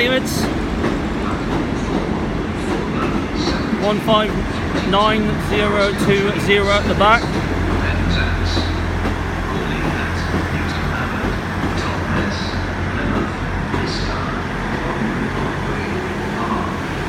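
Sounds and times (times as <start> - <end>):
diesel train engines droning: 0.0 - 17.0.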